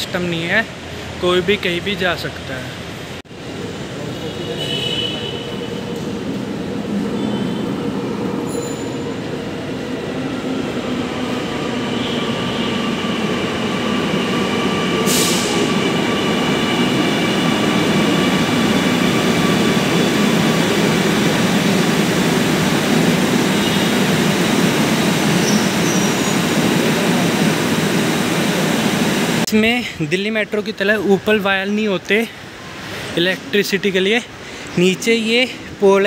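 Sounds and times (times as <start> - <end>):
metro train rumble: 0.0 - 30.8.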